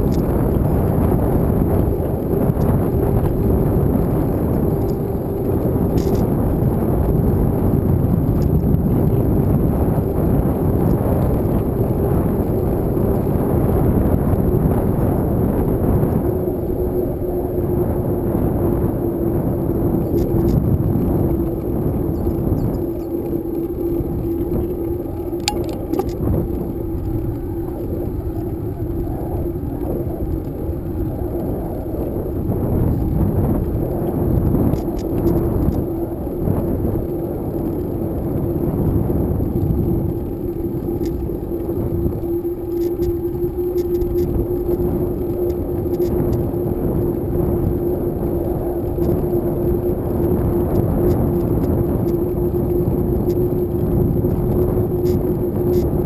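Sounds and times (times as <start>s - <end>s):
steady hum: 0.0s - 56.0s
wind buffeting microphone: 0.0s - 56.0s.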